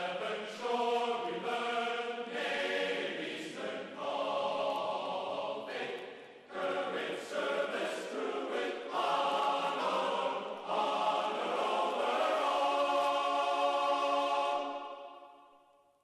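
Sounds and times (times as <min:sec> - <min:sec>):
choral chords: 0:00.0 - 0:16.0.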